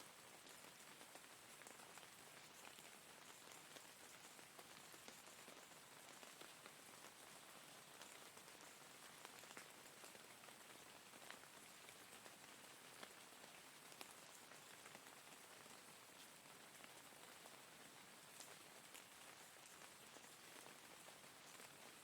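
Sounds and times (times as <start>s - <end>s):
quiet steady rain: 0.0s - 22.0s.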